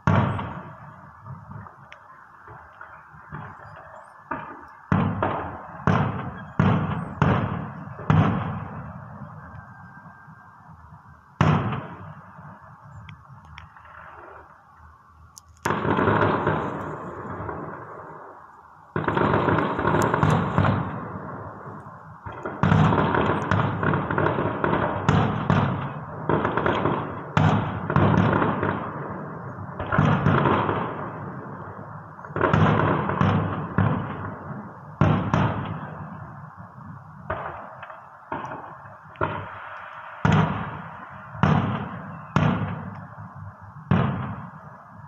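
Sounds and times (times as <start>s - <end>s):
fireworks booming: 0.0s - 9.8s, 10.7s - 12.9s, 15.6s - 45.0s.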